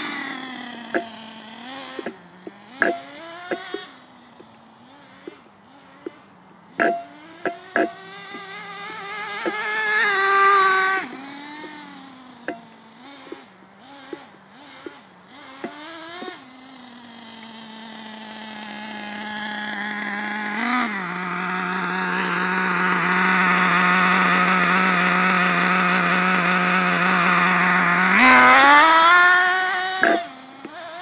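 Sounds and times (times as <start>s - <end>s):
engine throttle blips: 0.0s - 31.0s
small nitro engine idling: 0.0s - 31.0s.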